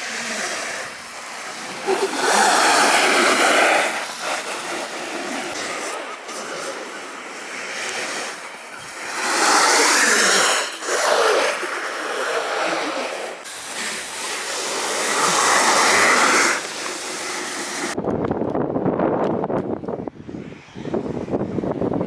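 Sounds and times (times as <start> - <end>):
snowboard edges hissing on snow: 0.0 - 18.0.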